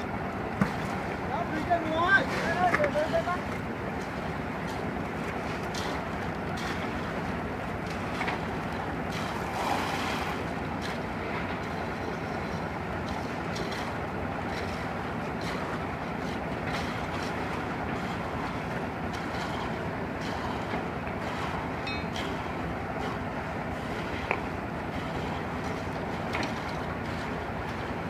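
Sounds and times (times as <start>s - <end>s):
machinery running: 0.0s - 28.0s.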